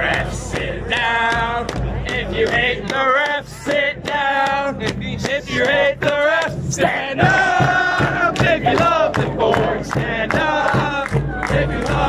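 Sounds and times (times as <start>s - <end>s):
crowd singing a chant: 0.0s - 12.0s
steady drum beat: 0.0s - 12.0s.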